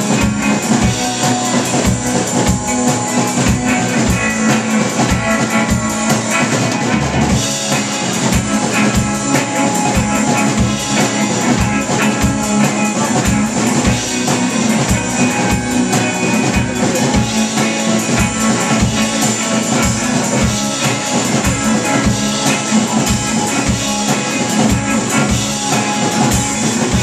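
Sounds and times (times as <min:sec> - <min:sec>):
electric guitar: 0:00.0 - 0:27.0
rock band playing: 0:00.0 - 0:27.0.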